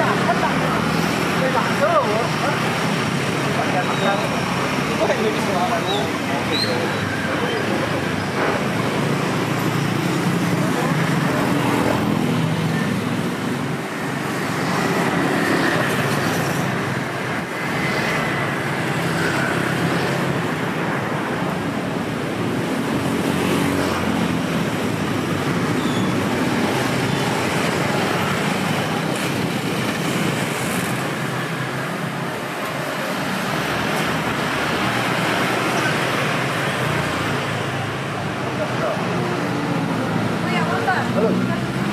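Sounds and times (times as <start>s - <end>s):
vehicle engines passing: 0.0s - 41.9s.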